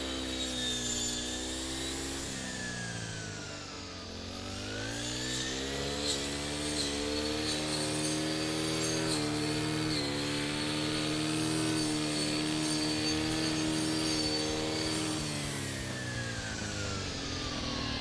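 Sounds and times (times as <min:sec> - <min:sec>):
brush cutter cutting grass: 0:00.0 - 0:18.0.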